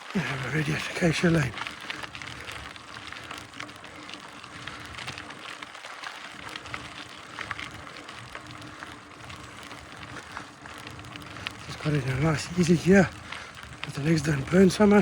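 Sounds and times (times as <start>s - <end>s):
bike tyres rolling on gravel: 0.0s - 15.0s.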